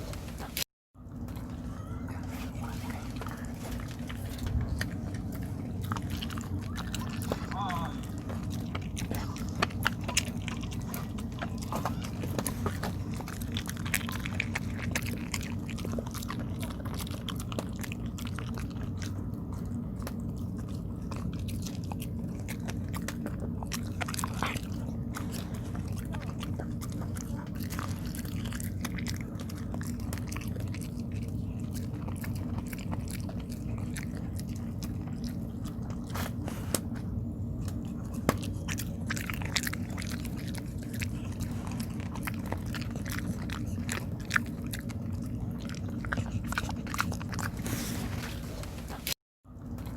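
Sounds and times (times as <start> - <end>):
dog chewing: 0.0 - 49.9
low hum: 0.0 - 49.9.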